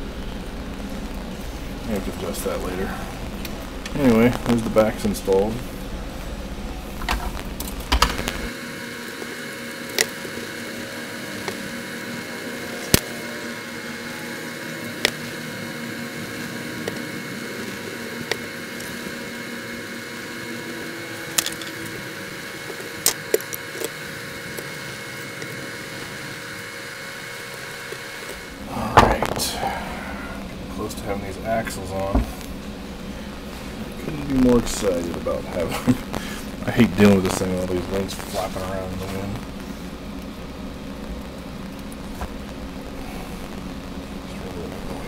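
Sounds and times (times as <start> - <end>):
camera static hum: 0.0 - 45.0.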